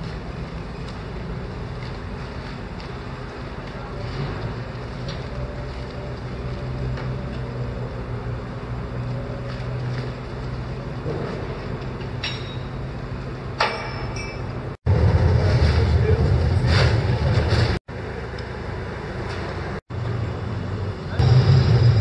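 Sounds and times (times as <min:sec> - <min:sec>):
diesel engine running: 0:00.0 - 0:13.6, 0:14.5 - 0:22.0.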